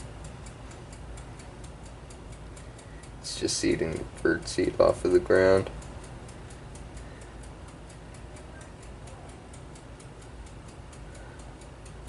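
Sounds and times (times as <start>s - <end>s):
faint steady ticking: 0.0s - 12.0s
low indoor hum: 0.0s - 12.0s.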